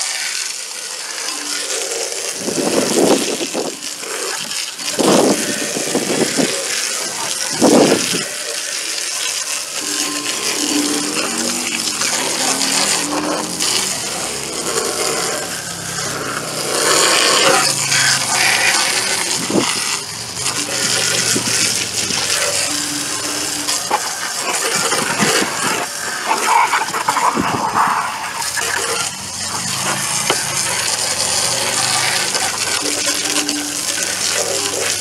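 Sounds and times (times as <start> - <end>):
hose spray on metal deck: 0.0 - 35.0.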